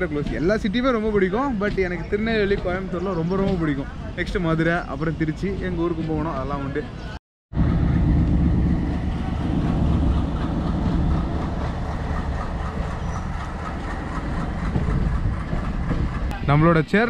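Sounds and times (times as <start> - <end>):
train wheels on rails: 0.0 - 6.4, 7.6 - 17.0
diesel locomotive engine rumbling: 0.0 - 6.8, 7.5 - 17.0.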